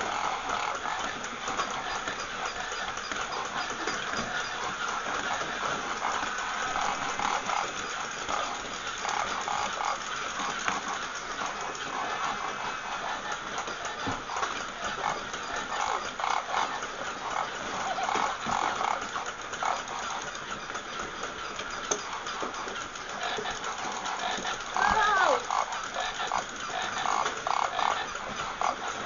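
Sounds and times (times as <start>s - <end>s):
toy motor and gears clicking: 0.0s - 29.0s.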